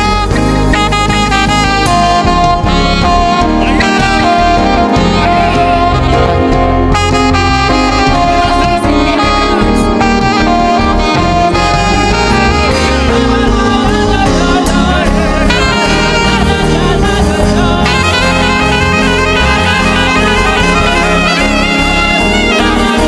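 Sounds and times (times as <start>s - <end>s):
gospel band playing: 0.0s - 23.0s
saxophone lead line: 0.0s - 23.0s.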